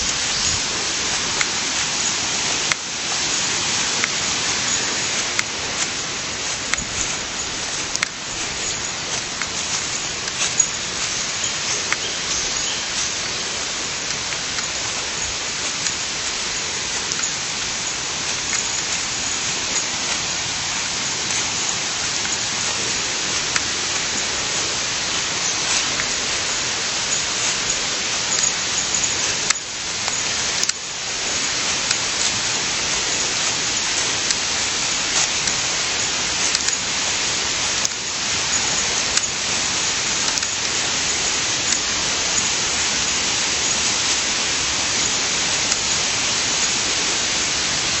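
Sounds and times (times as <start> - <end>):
running water hiss: 0.0 - 48.0.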